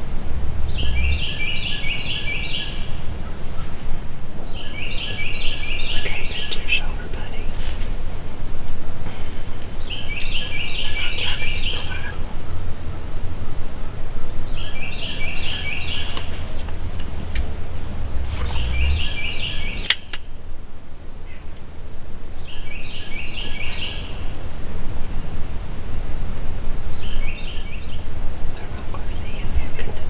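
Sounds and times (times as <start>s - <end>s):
low wind rumble: 0.0s - 30.0s
songbird singing: 0.0s - 30.0s.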